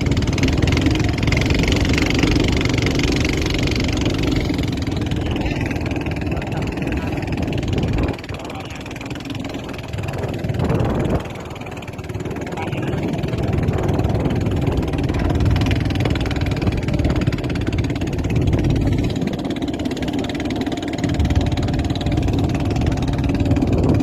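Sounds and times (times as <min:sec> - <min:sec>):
boat engine rumbling: 0:00.0 - 0:24.0
water noise: 0:00.0 - 0:24.0
wind: 0:00.0 - 0:24.0.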